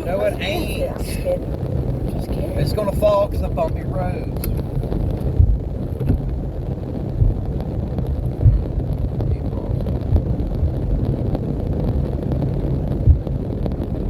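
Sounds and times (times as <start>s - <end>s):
faint rain ticks: 0.0s - 14.0s
vehicle road rumble: 0.0s - 14.0s
thumps from road bumps: 0.8s - 14.0s.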